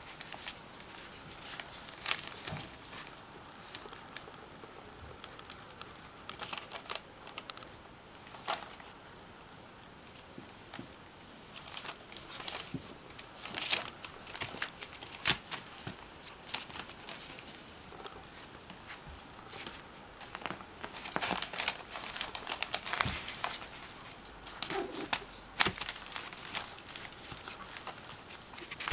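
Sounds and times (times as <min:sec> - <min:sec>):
newspaper crinkling under paws: 0:00.0 - 0:04.2, 0:05.2 - 0:08.9, 0:10.1 - 0:28.9.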